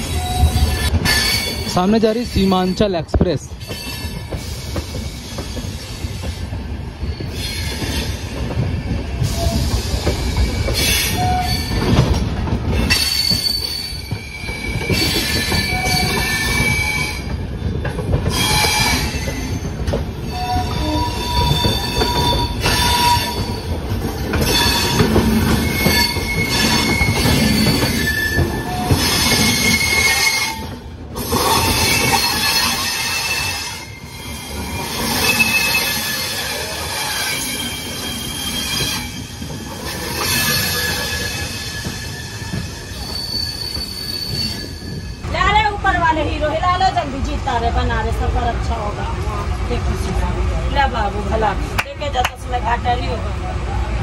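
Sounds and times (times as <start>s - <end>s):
train wheels squealing: 0.0s - 1.7s, 3.6s - 45.2s
train wheels rumbling and clattering: 0.0s - 54.0s.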